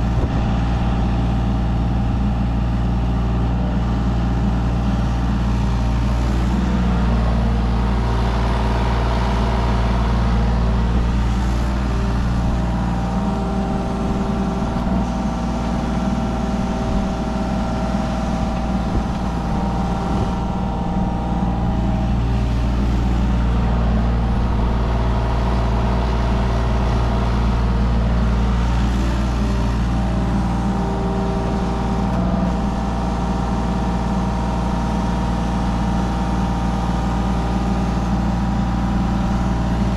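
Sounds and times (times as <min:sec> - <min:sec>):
excavator diesel engine running: 0:00.0 - 0:39.9
hydraulic whine: 0:06.0 - 0:39.9.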